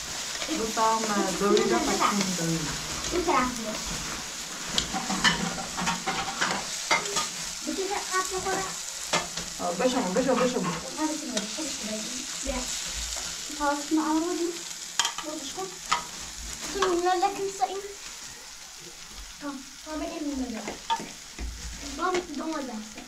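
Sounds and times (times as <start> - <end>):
sizzling hiss: 0.0 - 23.0.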